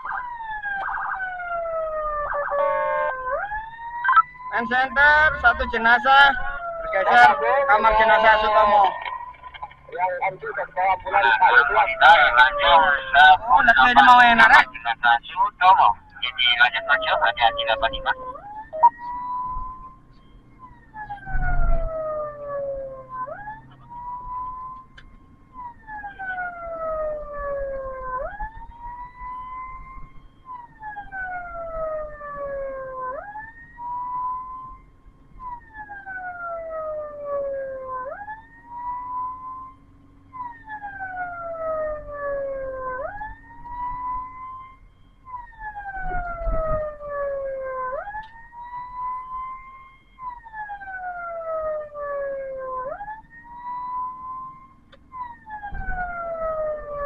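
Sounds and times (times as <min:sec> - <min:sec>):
ambulance siren wailing: 0:00.0 - 0:57.0
engine and road noise: 0:00.0 - 0:57.0.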